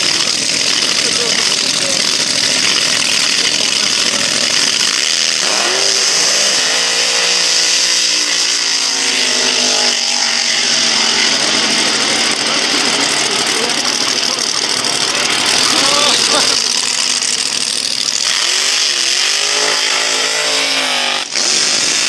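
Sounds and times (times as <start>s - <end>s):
drag racing engines revving: 0.0s - 22.0s
tyre burnout: 0.0s - 22.0s.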